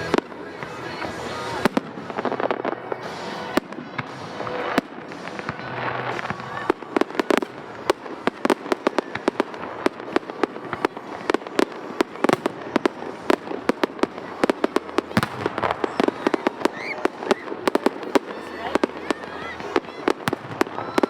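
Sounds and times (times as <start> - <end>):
fireworks bursting with sharp bangs: 0.0 - 21.0.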